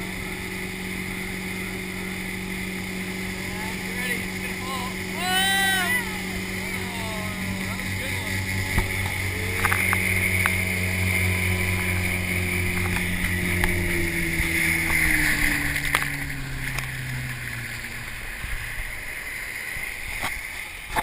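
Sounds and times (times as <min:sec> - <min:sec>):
motorboat engine running: 0:00.0 - 0:21.0
water rushing along hull: 0:00.0 - 0:21.0.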